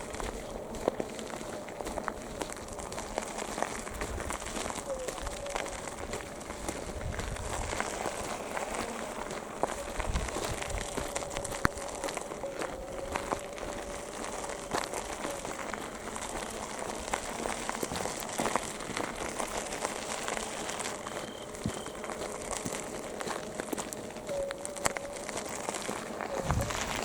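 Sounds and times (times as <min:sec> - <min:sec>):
footsteps on dry leaves and twigs: 0:00.0 - 0:27.0.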